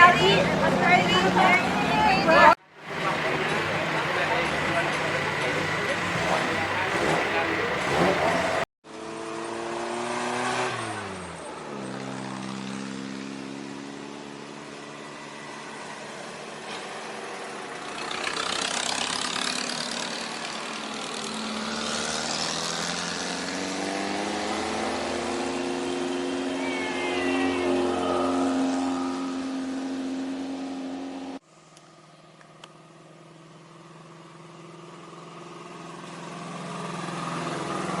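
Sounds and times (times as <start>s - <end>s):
vehicle engine running: 0.0s - 8.7s, 11.2s - 38.0s.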